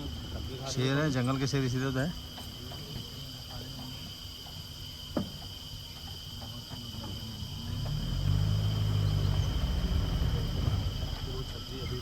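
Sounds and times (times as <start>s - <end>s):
insects droning: 0.0s - 12.0s
low engine hum: 0.0s - 12.0s.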